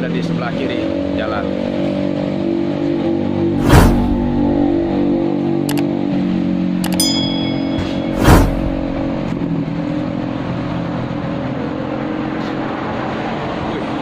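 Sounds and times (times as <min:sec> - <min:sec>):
road traffic noise: 0:00.0 - 0:14.0
vehicle rushing past: 0:01.1 - 0:07.0, 0:07.6 - 0:14.0.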